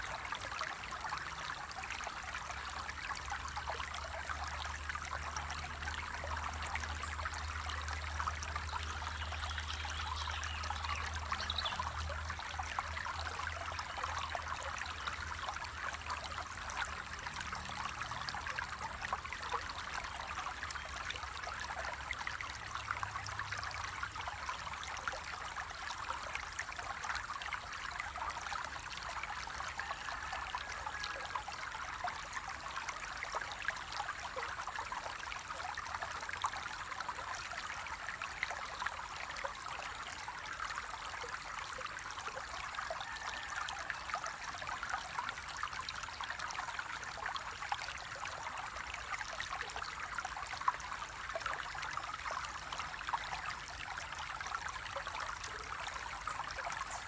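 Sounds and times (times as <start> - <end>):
water flowing in a small stream: 0.0 - 57.0.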